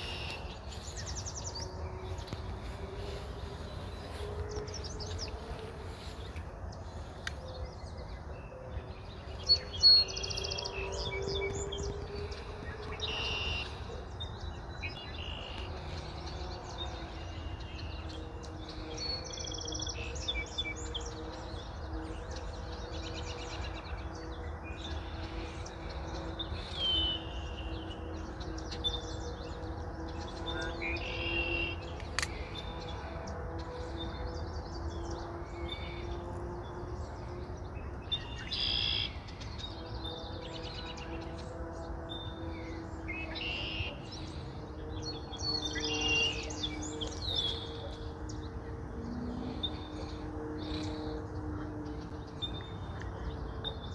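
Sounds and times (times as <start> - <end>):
songbirds chirping: 0.0 - 53.9
steady low hum: 0.0 - 53.9.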